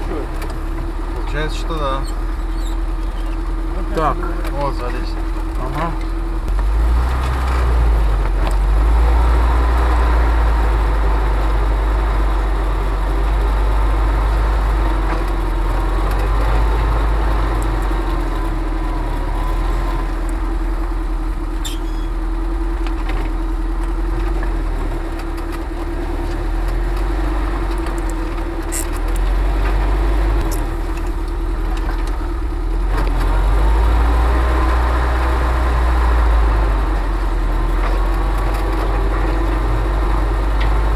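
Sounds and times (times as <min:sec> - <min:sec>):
vehicle engine running at low speed: 0:00.0 - 0:40.9.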